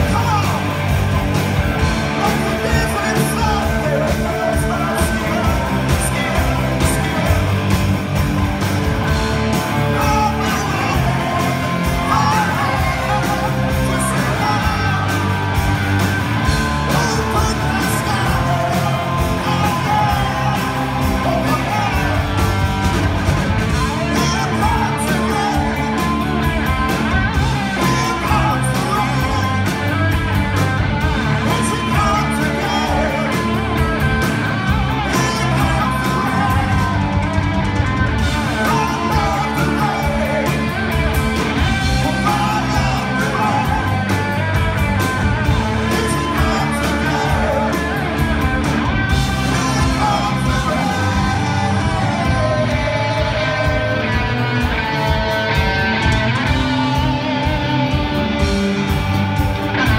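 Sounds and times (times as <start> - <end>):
person singing: 0.0 - 8.1, 9.0 - 59.9
live rock band playing: 0.0 - 59.9.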